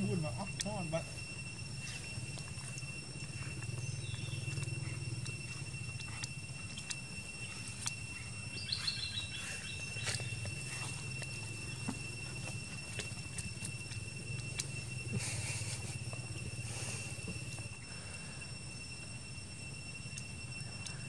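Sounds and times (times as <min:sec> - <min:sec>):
insects droning: 0:00.0 - 0:21.0
low steady hum: 0:00.0 - 0:21.0.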